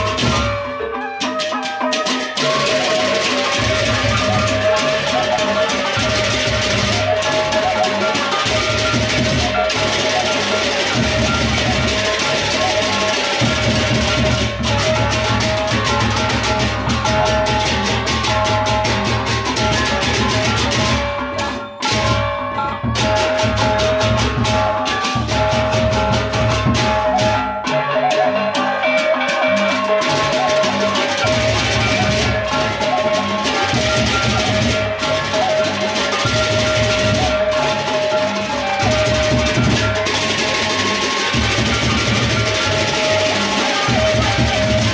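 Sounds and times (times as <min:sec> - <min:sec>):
held melodic tone: 0:00.0 - 0:44.9
large barrel drums: 0:00.0 - 0:44.9
hand cymbals clashing: 0:01.3 - 0:44.9.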